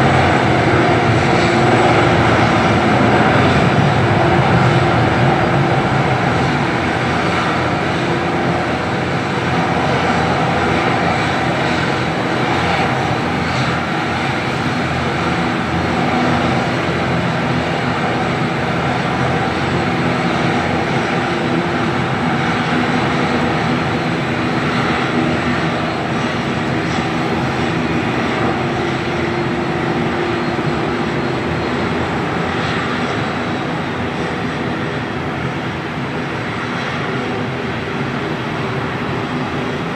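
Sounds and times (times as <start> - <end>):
turboprop engine drone: 0.0 - 39.9.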